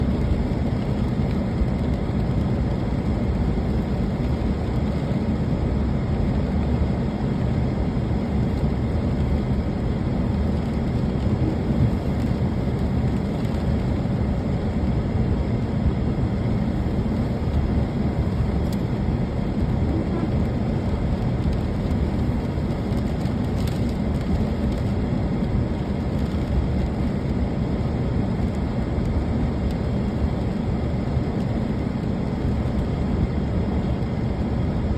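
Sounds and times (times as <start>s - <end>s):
deep rumble: 0.0s - 34.9s
steady rain falling: 0.0s - 34.9s.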